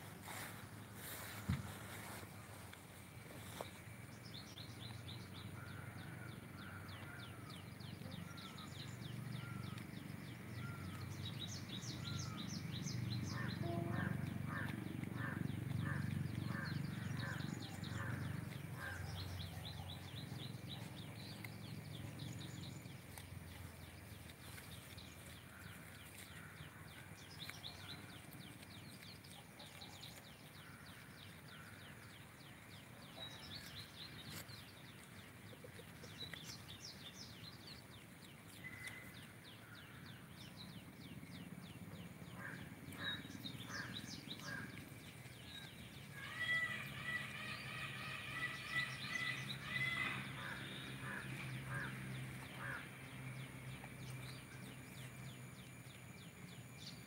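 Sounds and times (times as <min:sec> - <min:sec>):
birds chirping: 0:03.1 - 0:57.0.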